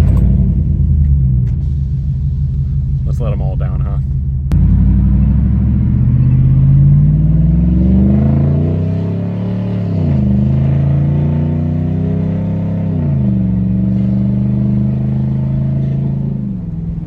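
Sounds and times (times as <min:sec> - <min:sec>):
loud truck exhaust: 0:00.0 - 0:03.2, 0:04.1 - 0:17.0.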